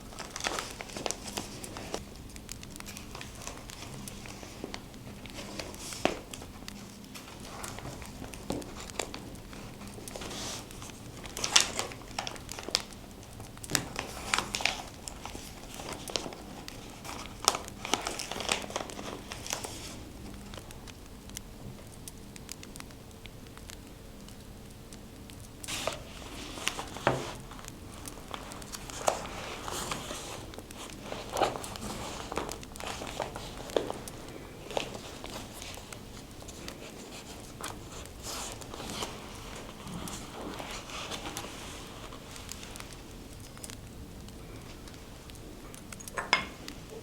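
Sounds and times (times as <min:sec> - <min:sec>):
paper crinkling and rustling: 0:00.0 - 0:21.9, 0:25.4 - 0:47.0.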